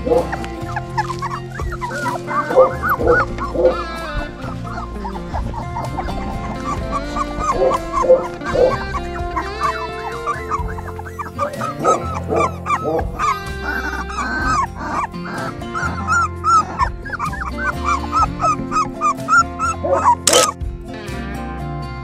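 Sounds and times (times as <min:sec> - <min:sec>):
puppies whimpering and yipping: 0:00.0 - 0:20.6
background music: 0:00.0 - 0:22.0.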